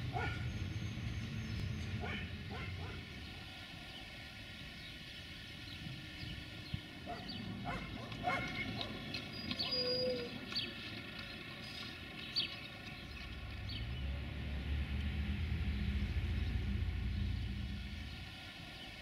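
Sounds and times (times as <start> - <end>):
birds chirping: 0.0 - 19.0
diesel engine rumble: 0.0 - 19.0.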